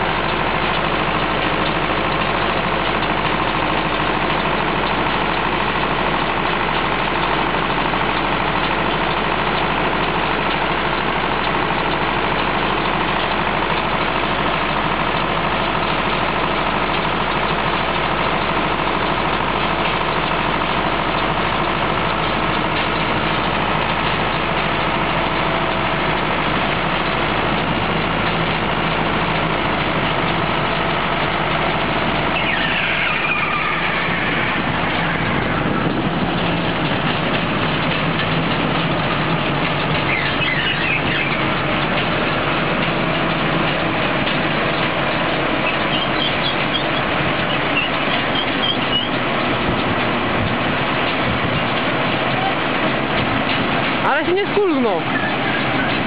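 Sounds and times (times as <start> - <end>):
baler mechanism working: 0.0 - 56.0
tractor diesel engine running: 0.0 - 56.0.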